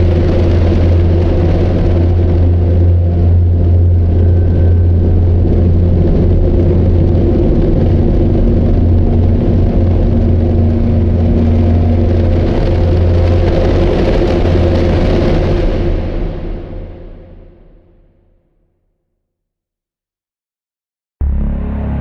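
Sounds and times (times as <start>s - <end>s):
deep hum: 0.0s - 17.8s, 21.2s - 22.0s
loud low rumble: 0.0s - 17.9s, 21.2s - 22.0s.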